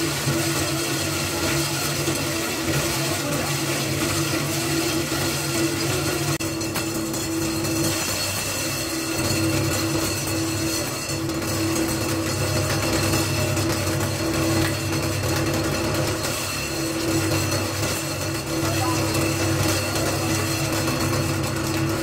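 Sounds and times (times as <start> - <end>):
meat chopping machine humming: 0.0 - 22.0.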